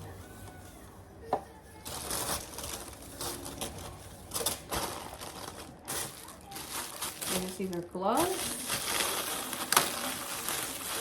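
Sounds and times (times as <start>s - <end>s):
packaging rustling and crinkling: 1.7s - 11.0s.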